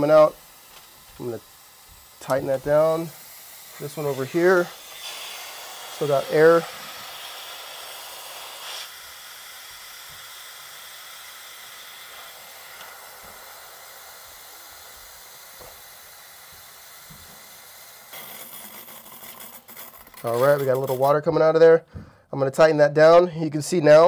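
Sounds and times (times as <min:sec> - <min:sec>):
water sputtering from a vent: 0:00.0 - 0:21.1
air hissing from a vent: 0:00.0 - 0:21.2.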